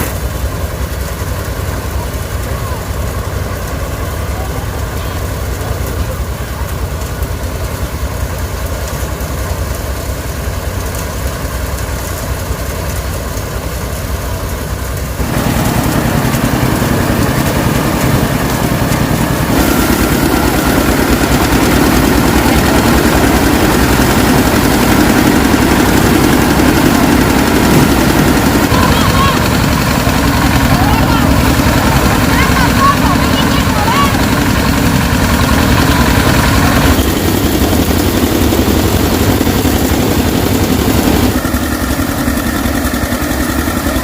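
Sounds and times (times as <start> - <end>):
engine running with low rumble: 0.0 - 44.0.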